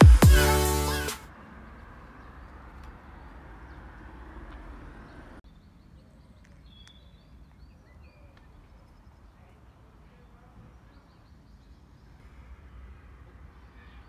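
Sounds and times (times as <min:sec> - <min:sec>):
small birds chirping: 0:01.6 - 0:14.0.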